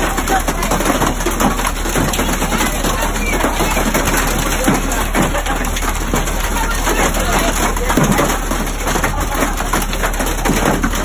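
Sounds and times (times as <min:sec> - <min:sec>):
hail and rain pelting: 0:00.0 - 0:11.0.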